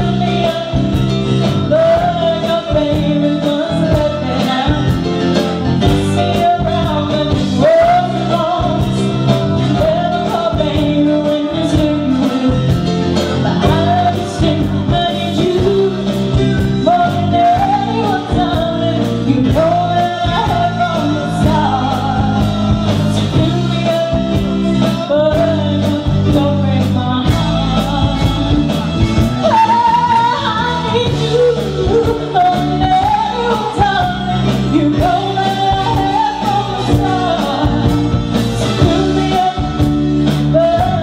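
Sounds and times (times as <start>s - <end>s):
live rock band playing: 0.0s - 41.0s
woman singing: 0.0s - 41.0s.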